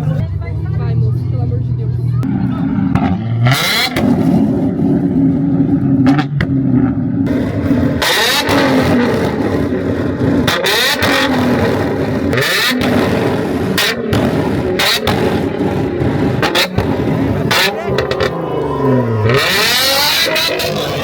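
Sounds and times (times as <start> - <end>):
car engine revving: 0.0 - 21.0
exhaust cracks: 0.0 - 21.0.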